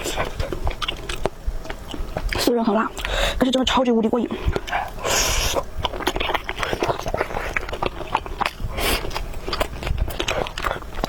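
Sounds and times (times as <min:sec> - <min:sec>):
chewing and slurping noodles: 0:00.0 - 0:03.2, 0:04.3 - 0:11.0.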